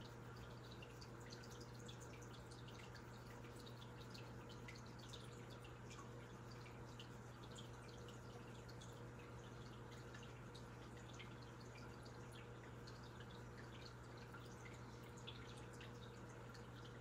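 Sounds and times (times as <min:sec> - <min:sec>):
low steady hum: 0:00.0 - 0:17.0
water drips and splashes: 0:00.0 - 0:17.0.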